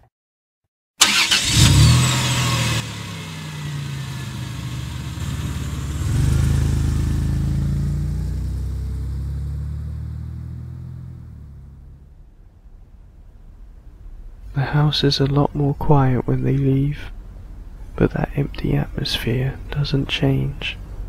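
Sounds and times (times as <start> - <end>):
car engine starting and running: 1.0 - 21.0.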